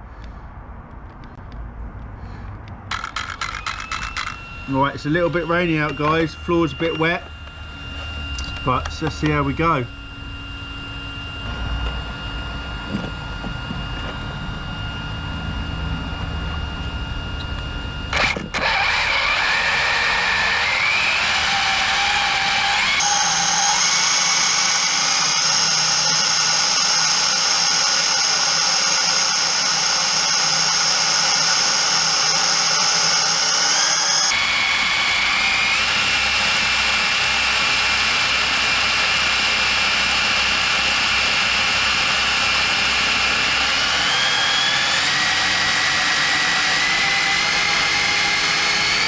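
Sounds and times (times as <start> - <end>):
electric motor whining: 2.9 - 49.0.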